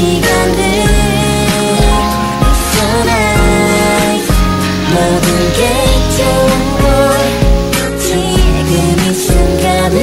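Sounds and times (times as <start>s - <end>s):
pop music with singing: 0.0s - 10.0s.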